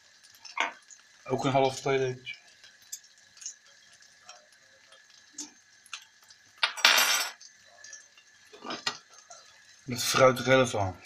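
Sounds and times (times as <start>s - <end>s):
butter bubbling in a wok: 0.0s - 11.0s.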